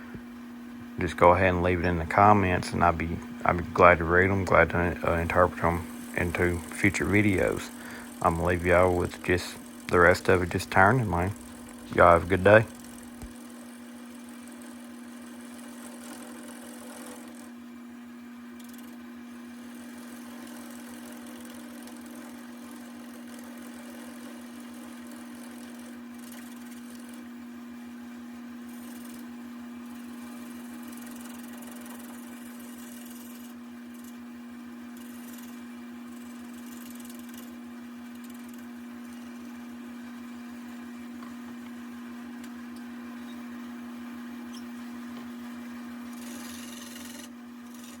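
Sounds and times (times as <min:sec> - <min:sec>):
wood lathe motor hum: 0:01.0 - 0:48.0
turning tool scraping wood: 0:01.2 - 0:17.6, 0:18.6 - 0:27.3, 0:28.6 - 0:34.2, 0:34.9 - 0:39.6, 0:44.5 - 0:48.0.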